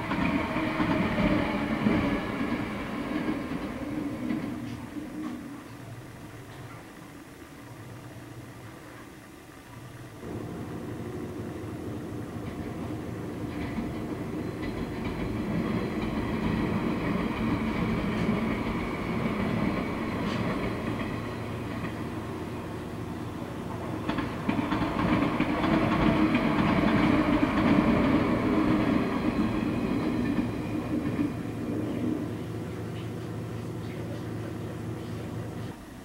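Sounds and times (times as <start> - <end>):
electric train running past: 0.0 - 36.0.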